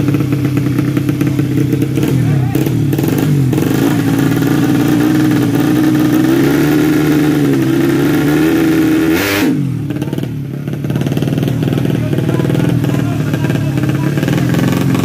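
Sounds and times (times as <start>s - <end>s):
motorbike engine at high revs: 0.0s - 15.0s.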